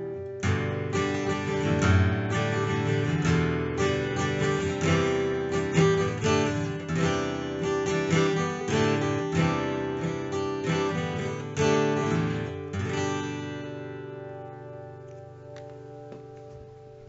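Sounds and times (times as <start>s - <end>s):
strummed acoustic guitar: 0.0s - 16.9s.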